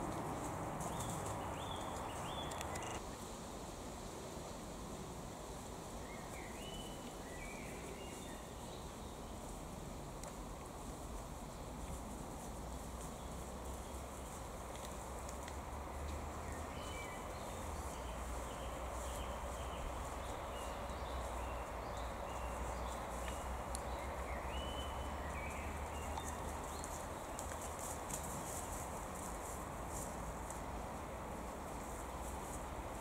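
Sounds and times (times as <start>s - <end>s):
rustling of dry leaves: 0.0s - 33.0s.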